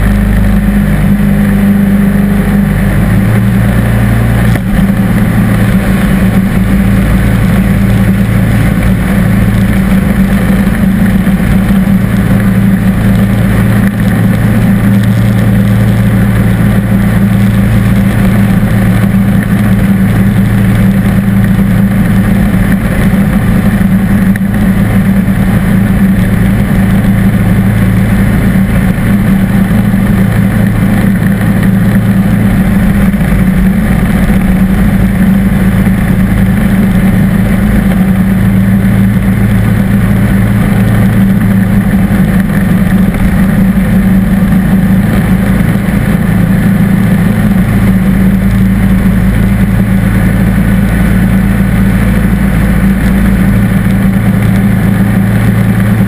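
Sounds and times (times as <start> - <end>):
lawn tractor engine running: 0.0 - 56.0
snow thrower blowing snow: 0.0 - 56.0.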